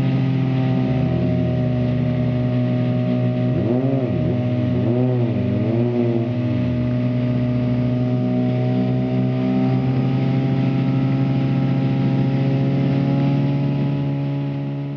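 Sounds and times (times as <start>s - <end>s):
rally car engine idling: 0.0s - 14.9s.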